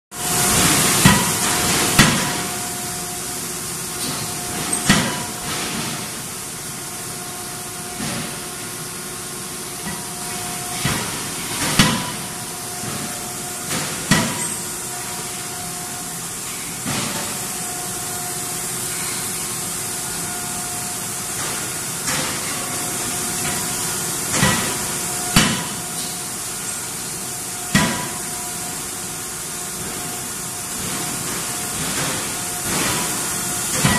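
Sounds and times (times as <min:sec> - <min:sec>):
machinery hum and hiss: 0:00.1 - 0:33.9.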